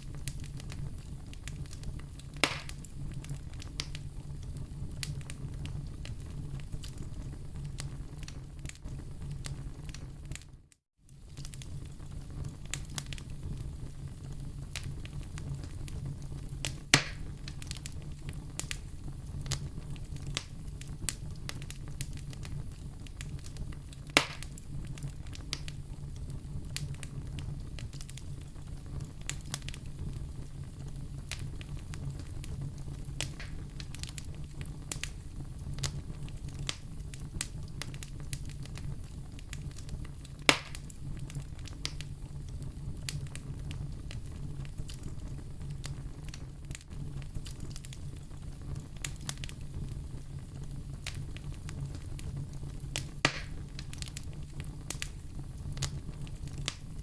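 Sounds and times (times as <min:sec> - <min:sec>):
loud fire pops: 0:00.0 - 0:57.0
wood fire crackling: 0:00.0 - 0:57.0.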